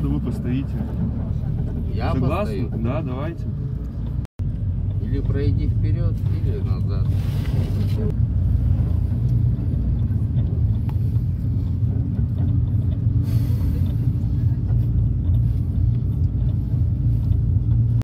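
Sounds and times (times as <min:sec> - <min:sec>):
minibus engine and tyres droning: 0:00.0 - 0:18.0.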